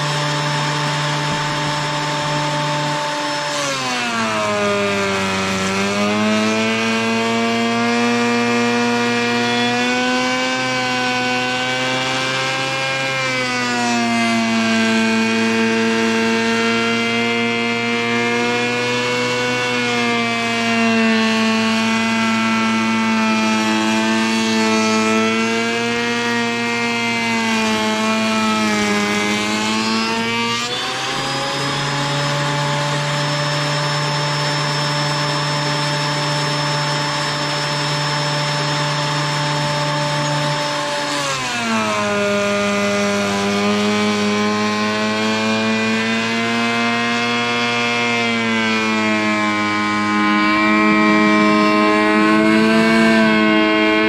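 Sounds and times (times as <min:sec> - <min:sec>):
thickness planer whining: 0:00.0 - 0:54.0.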